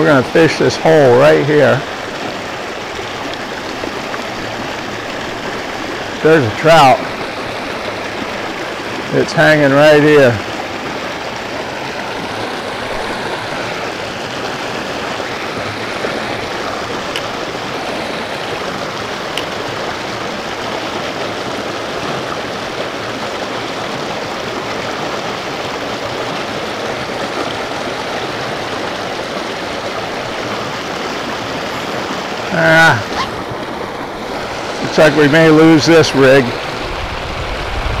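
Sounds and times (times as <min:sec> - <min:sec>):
creek rushing over rocks: 0:00.0 - 0:38.0.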